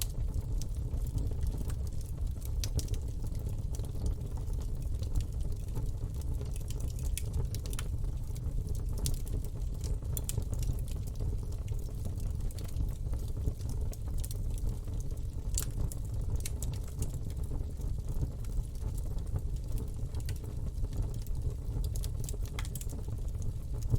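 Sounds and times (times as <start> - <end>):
burning wood crackling: 0.0 - 23.9
low rumble of fire: 0.0 - 23.9.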